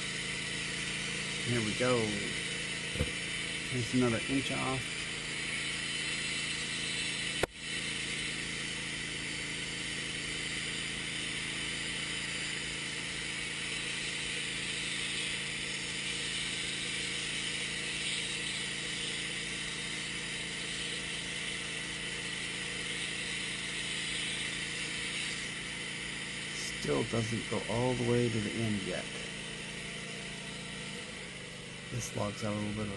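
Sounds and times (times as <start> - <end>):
bandsaw mill cutting log: 0.0 - 32.9.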